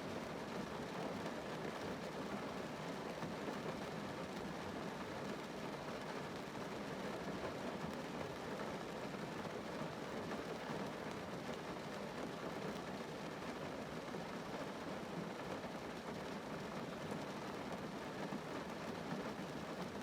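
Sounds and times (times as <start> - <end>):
rain pattering on car roof: 0.1 - 20.0.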